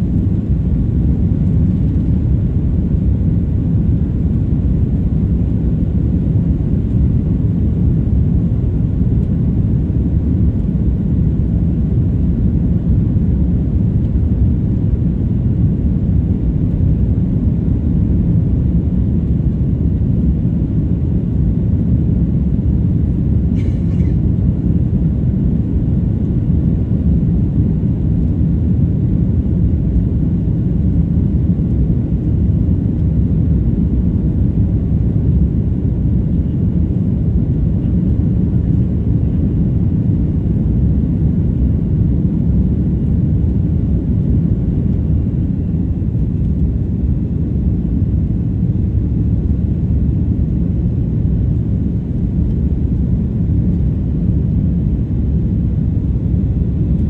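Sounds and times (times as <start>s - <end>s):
air rushing in cabin: 0.0s - 57.0s
jet engines rumbling: 0.0s - 57.0s.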